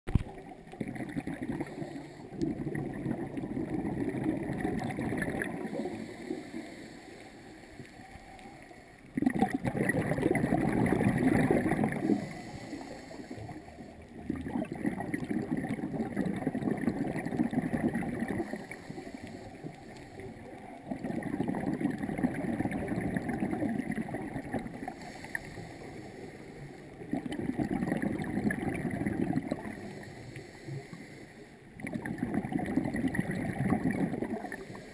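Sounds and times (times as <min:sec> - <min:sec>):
underwater regulator bubbling: 0:00.1 - 0:30.7, 0:31.8 - 0:34.9.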